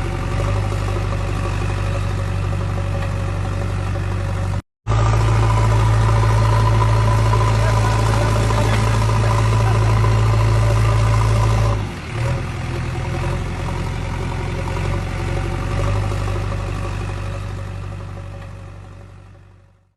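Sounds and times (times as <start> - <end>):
diesel engine running under load: 0.0 - 19.9.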